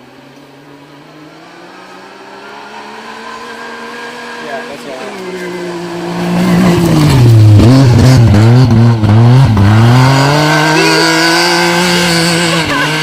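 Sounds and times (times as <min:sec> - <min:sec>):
vehicle engine running hard: 0:00.0 - 0:13.0.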